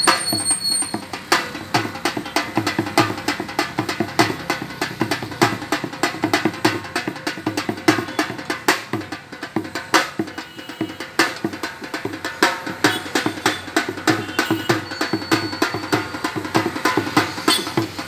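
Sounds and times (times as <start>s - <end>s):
fast drum rhythm: 0.0s - 18.0s.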